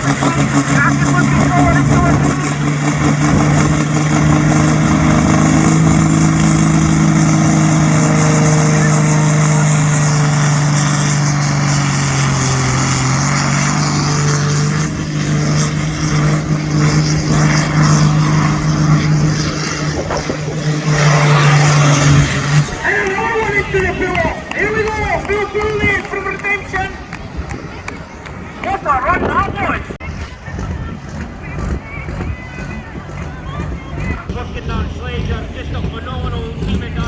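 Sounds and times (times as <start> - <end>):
tractor engine at high revs: 0.0 - 37.0.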